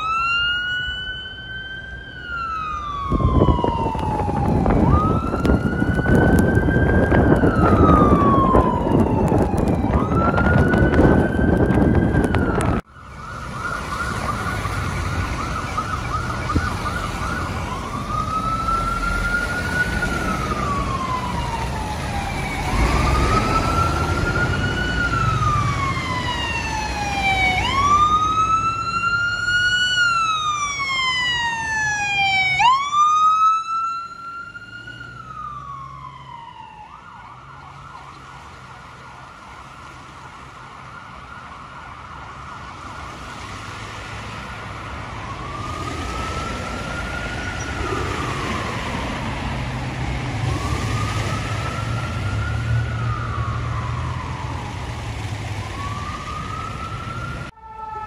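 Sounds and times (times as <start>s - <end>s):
emergency vehicle siren: 0.0s - 58.0s.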